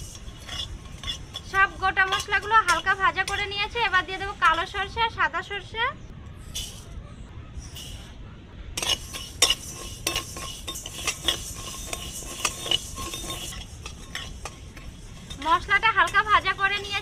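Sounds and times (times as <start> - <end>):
metal spatula scraping pan: 0.0 - 4.9, 6.4 - 6.9, 7.6 - 8.2, 8.8 - 17.0.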